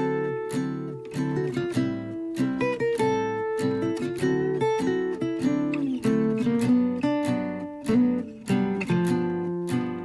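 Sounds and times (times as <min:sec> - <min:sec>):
picked acoustic guitar melody: 0:00.0 - 0:10.0.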